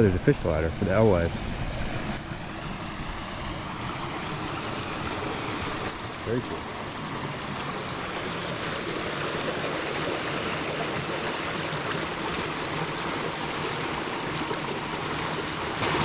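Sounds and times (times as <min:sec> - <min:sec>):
water running steadily: 0:02.2 - 0:16.0.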